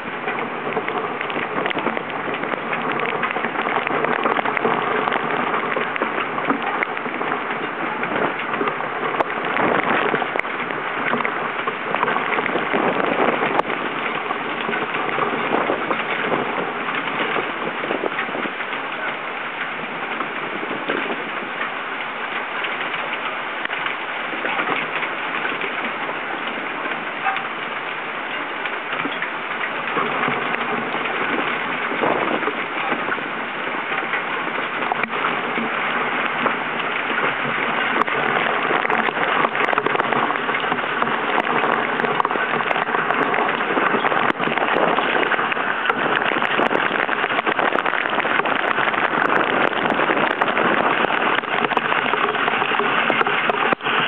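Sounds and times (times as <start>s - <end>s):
rain pelting a camera: 0.0s - 54.0s.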